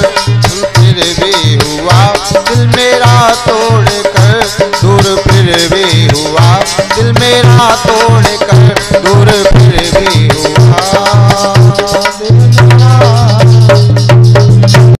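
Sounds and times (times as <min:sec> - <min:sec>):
instrumental melody bending in pitch: 0:00.0 - 0:15.0
steady percussion beat: 0:00.0 - 0:15.0.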